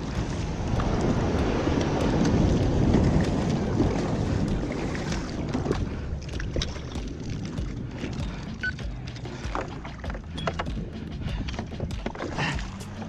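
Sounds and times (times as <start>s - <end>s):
paddle splashes and drips: 0.0s - 13.0s
sea water wash: 0.0s - 13.0s
wind buffeting microphone: 0.0s - 13.0s.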